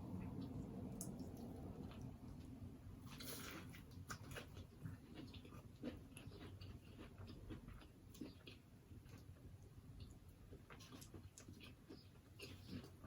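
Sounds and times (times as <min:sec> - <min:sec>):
person chewing: 0:00.3 - 0:13.0
food crunch: 0:00.4 - 0:13.0.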